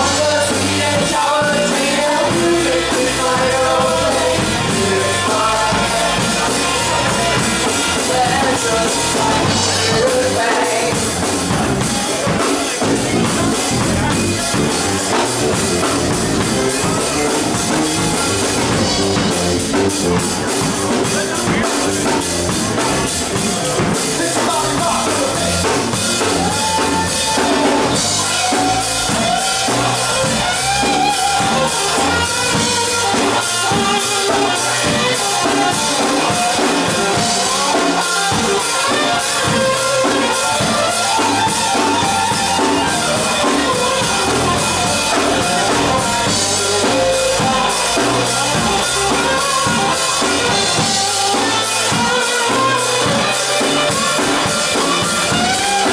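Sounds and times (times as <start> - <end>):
drum kit beat: 0.0 - 55.9
rock band playing: 0.0 - 55.9.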